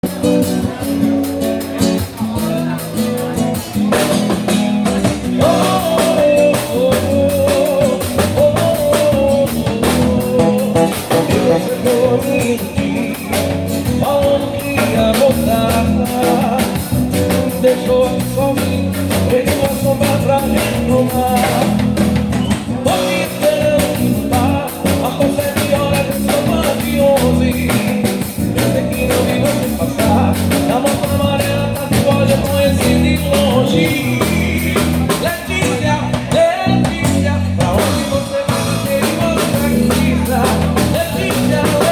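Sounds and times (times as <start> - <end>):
drum kit: 0.0 - 41.9
guitar: 0.0 - 41.9
person singing: 0.0 - 41.9.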